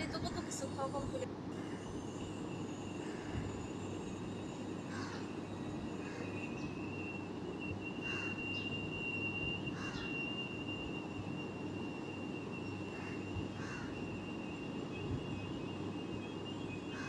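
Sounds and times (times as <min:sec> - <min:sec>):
thin high steady tone: 0:00.0 - 0:17.0
faint chirps: 0:01.6 - 0:17.0.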